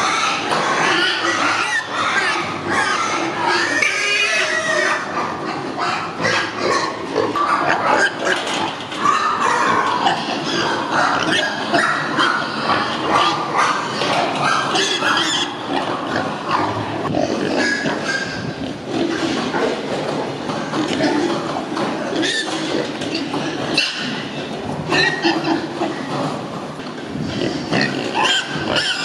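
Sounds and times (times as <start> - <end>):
pigs grunting and squealing: 0.0 - 29.0.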